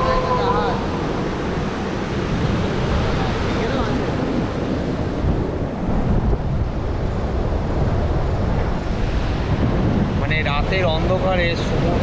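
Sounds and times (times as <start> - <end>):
sea surf roaring: 0.0 - 12.0
wind buffeting microphone: 0.0 - 12.0.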